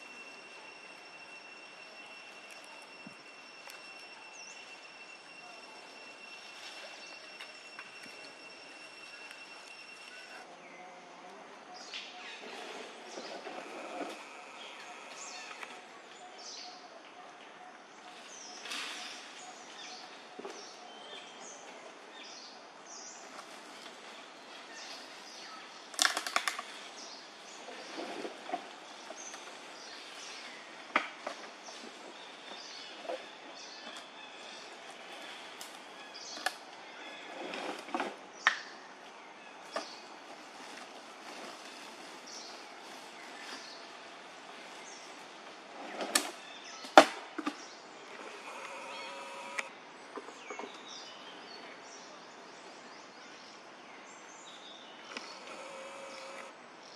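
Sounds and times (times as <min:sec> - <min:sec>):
birds chirping: 0:00.0 - 0:37.5, 0:46.4 - 0:56.9
outdoor background hiss: 0:00.0 - 0:56.9.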